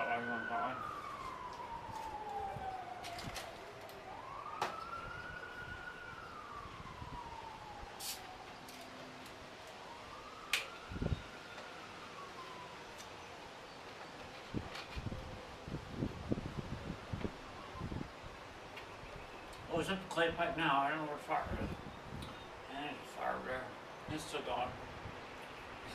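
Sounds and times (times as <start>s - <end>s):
emergency vehicle siren wailing: 0.0s - 23.9s.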